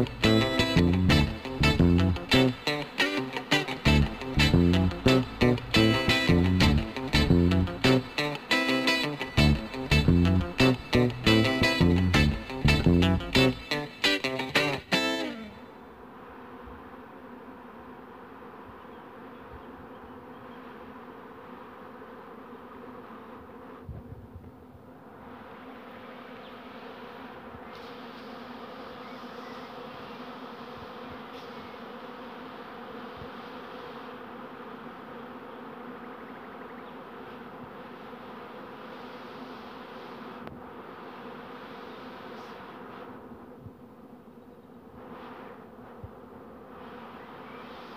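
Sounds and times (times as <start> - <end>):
honeybees buzzing: 0.0 - 47.9.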